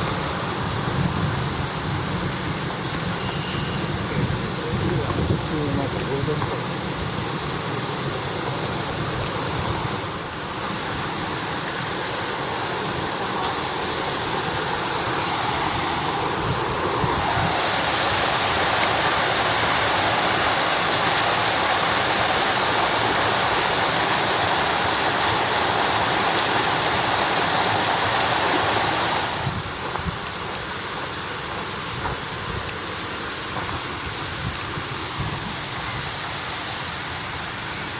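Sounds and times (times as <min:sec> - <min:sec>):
flowing and falling water: 0:00.0 - 0:37.9.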